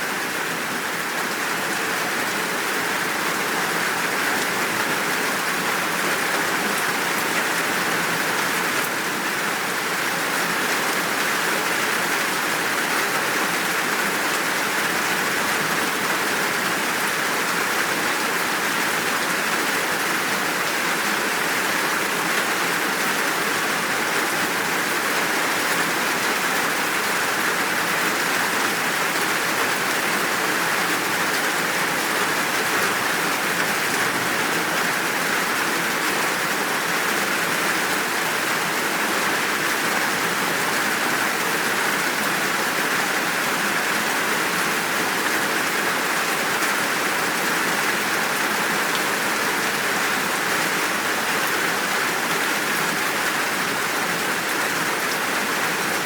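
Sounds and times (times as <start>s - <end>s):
steady rain downpour: 0.0s - 56.0s.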